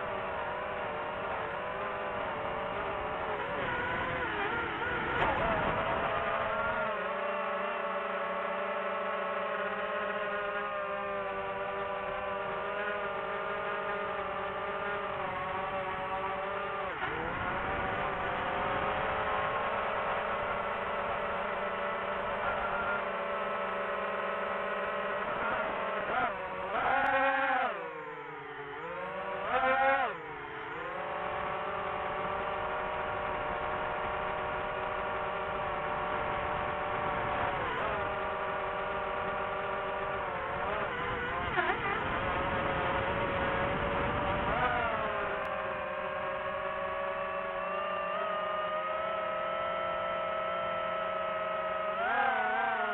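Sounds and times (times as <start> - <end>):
drone motors whining: 0.0 - 52.9.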